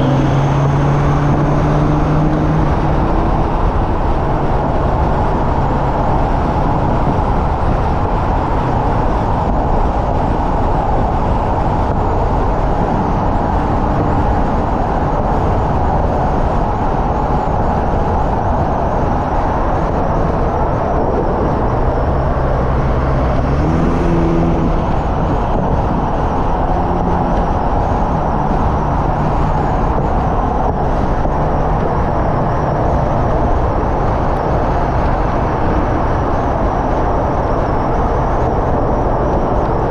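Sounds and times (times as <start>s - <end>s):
car engine running hard: 0.0s - 39.9s
loud wind noise: 0.0s - 39.9s.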